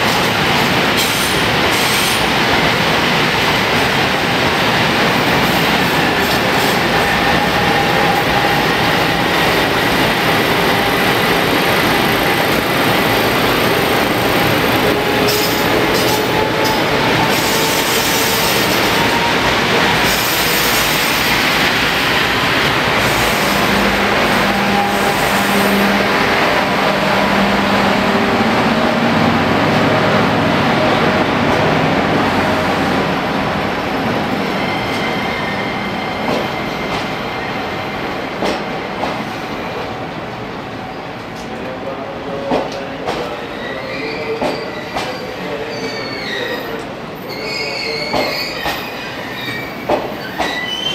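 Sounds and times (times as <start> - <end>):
train rumble and rattle: 0.0 - 50.9.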